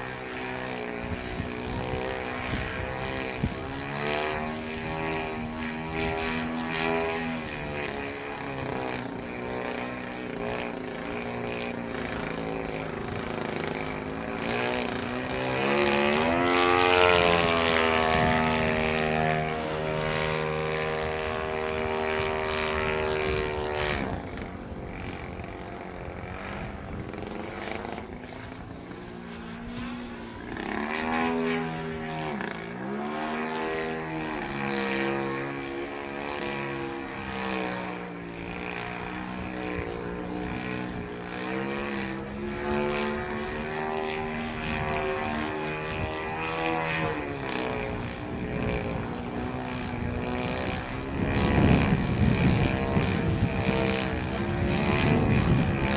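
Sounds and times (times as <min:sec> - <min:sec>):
model plane motor droning: 0:00.0 - 0:55.9.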